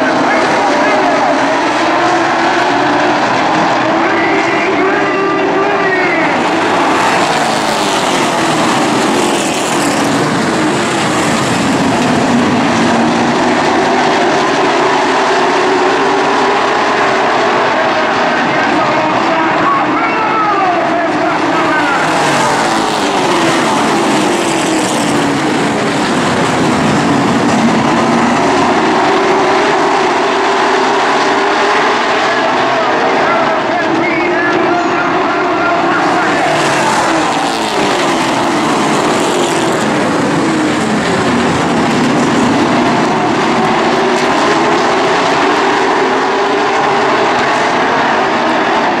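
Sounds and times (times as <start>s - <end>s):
stock car engines racing: 0.0s - 49.0s.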